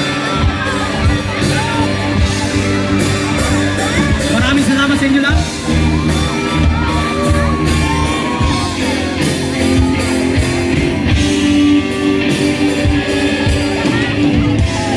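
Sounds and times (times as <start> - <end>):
drums: 0.0 - 14.9
electric guitar: 0.0 - 14.9.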